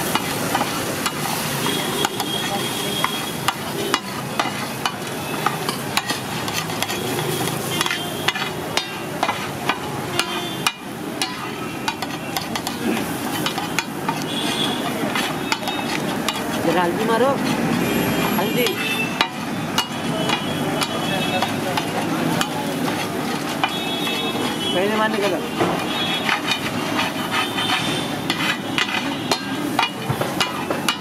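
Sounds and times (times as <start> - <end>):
eggs sizzling on a griddle: 0.0 - 31.0
metal spatula scraping and chopping: 0.0 - 31.0
spatula clacking against metal: 0.0 - 31.0.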